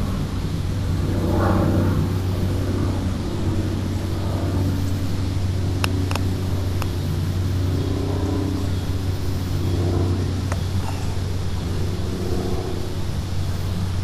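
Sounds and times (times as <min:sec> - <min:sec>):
low hum with hiss: 0:00.0 - 0:14.0
faint distant voices: 0:01.5 - 0:14.0.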